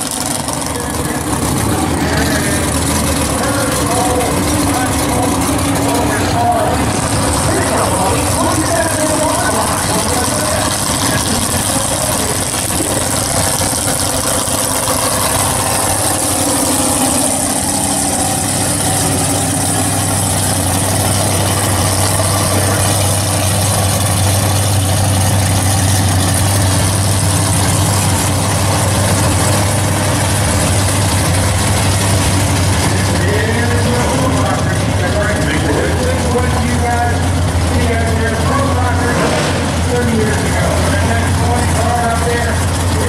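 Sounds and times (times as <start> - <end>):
deep low hum: 0.0 - 43.0
race car engines droning: 0.0 - 43.0.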